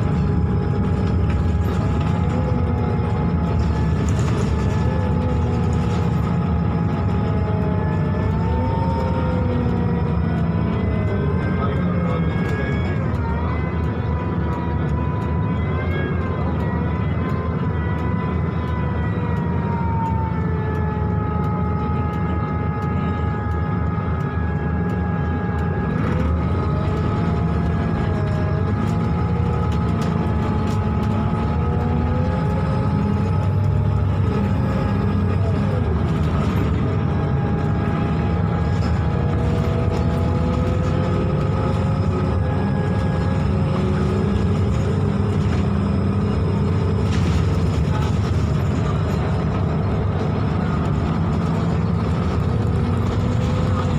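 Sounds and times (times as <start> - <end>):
bus engine and road rumble: 0.0 - 53.9
wavering whining tones: 0.0 - 53.9.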